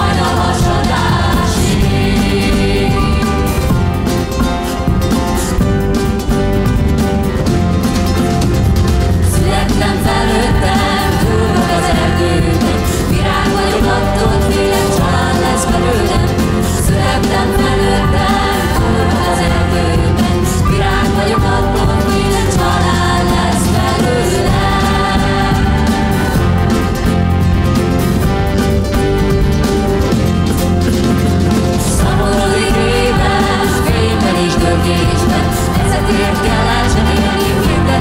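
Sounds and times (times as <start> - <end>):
mixed choir singing: 0.0 - 5.6, 9.2 - 27.7, 31.3 - 38.0
live band accompaniment: 0.0 - 38.0.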